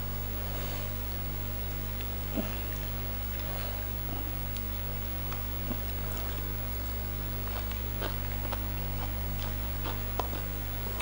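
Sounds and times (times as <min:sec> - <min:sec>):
steady low hum: 0:00.0 - 0:11.0
chewing and eating sounds: 0:00.6 - 0:11.0.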